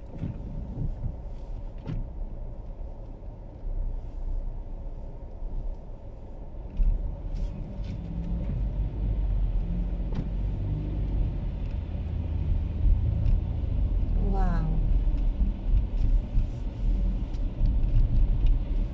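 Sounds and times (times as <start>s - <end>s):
car engine rumbling: 0.0s - 18.9s.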